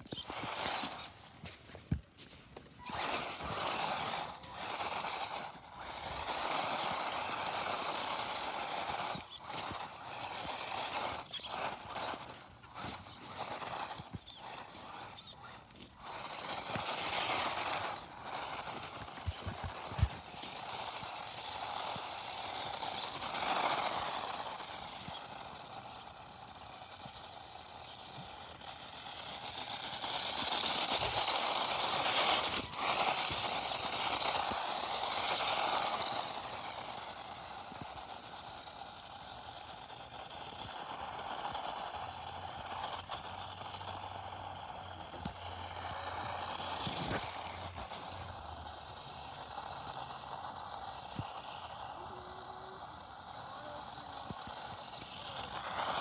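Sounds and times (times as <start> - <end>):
toy car motor running: 0.0 - 56.0.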